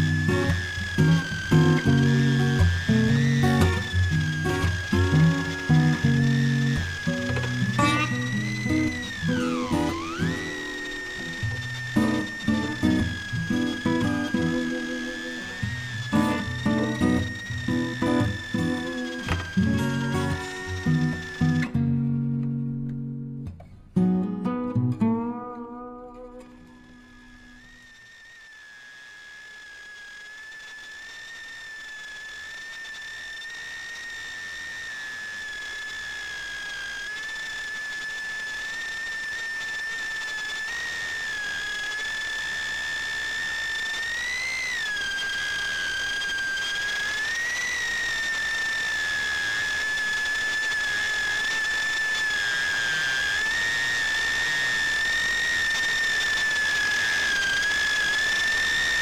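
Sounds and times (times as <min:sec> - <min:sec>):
quadcopter motors whining: 0:00.0 - 0:22.0, 0:26.2 - 0:59.0.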